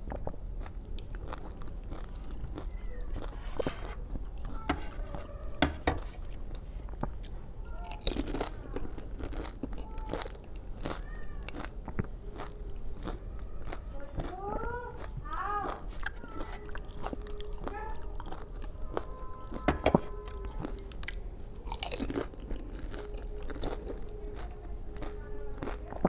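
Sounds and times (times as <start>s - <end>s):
chewing crunchy food: 0.0s - 26.0s.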